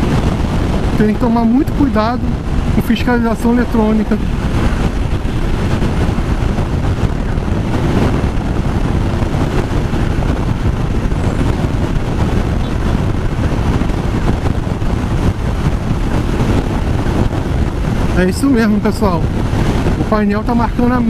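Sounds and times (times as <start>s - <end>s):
motorcycle engine and tyres: 0.0s - 20.2s
wind rushing over microphone: 0.0s - 21.0s.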